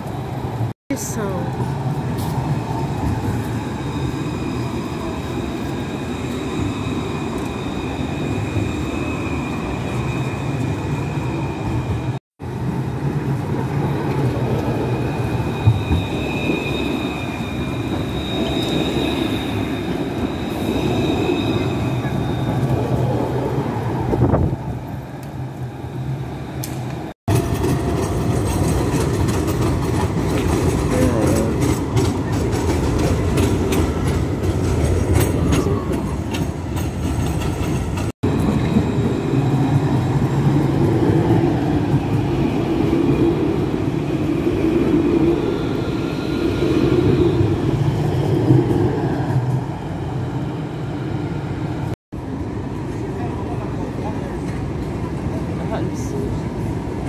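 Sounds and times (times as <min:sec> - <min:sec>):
tram wheels rolling on rails: 0:00.0 - 0:57.0.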